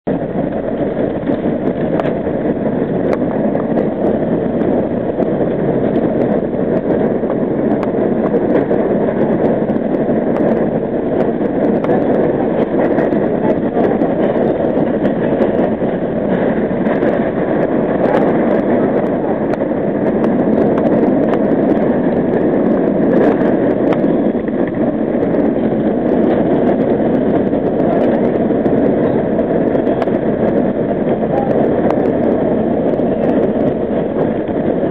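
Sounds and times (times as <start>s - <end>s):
subway train wheels on rail: 0.1s - 34.9s.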